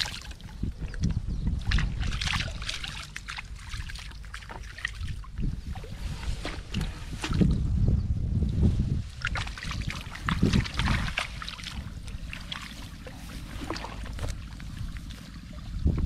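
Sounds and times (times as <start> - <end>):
water splashing in a bucket: 0.0 - 7.7, 9.1 - 16.0
wind rumble on microphone: 0.0 - 16.0.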